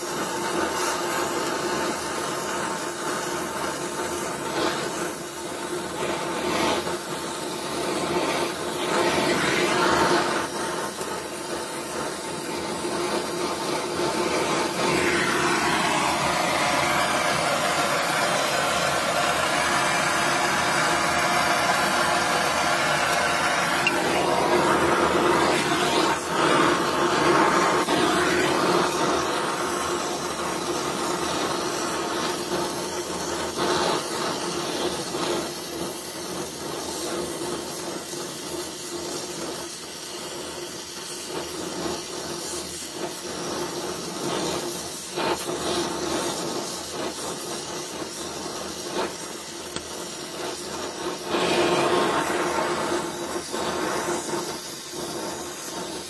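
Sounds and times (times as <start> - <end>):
welding torch flame hissing: 0.0 - 56.0.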